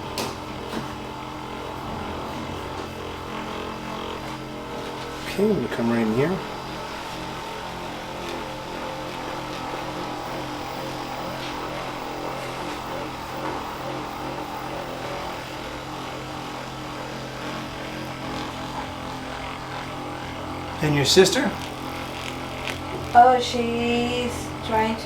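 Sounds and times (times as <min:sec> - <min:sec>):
electric massager motor hum: 0:00.0 - 0:25.0.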